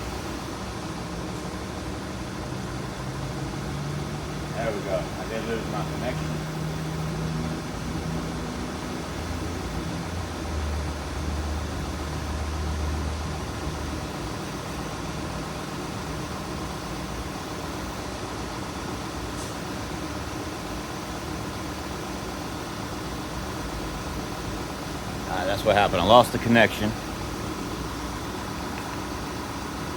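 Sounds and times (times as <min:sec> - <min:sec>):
car engine and fan drone: 0:00.0 - 0:29.9.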